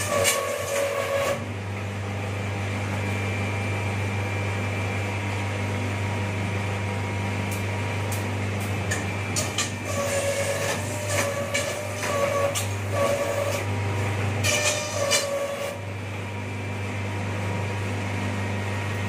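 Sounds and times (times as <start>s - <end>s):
planer machine humming: 0.0s - 19.0s.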